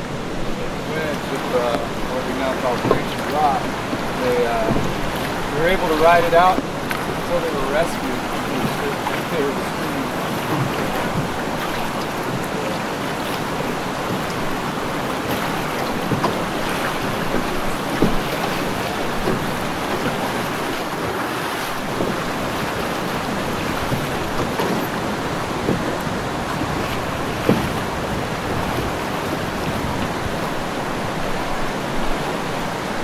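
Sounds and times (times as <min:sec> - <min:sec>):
fast-flowing river water: 0:00.0 - 0:33.0
wind buffeting microphone: 0:00.0 - 0:33.0.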